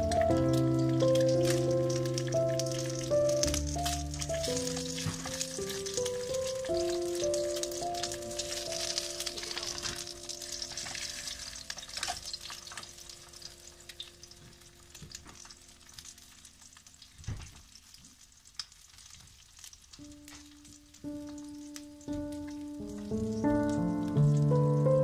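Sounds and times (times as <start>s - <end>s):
egg sizzling in a pan: 0.0s - 24.8s.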